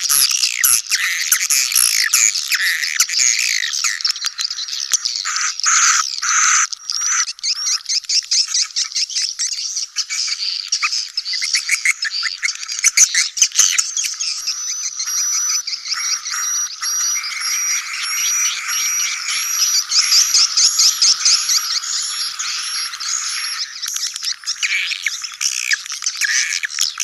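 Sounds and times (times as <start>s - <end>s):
swiftlets chattering and twittering: 0.0s - 27.0s.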